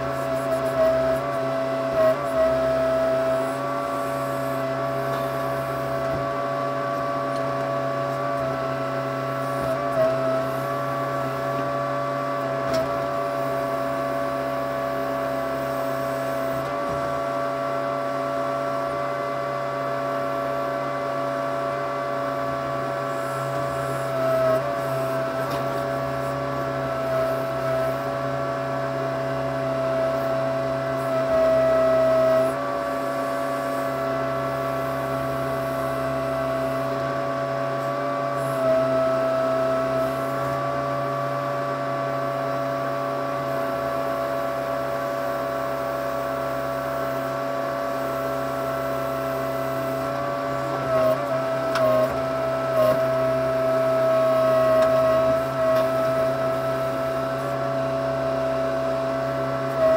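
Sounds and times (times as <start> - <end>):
backhoe engine running: 0.0 - 59.9.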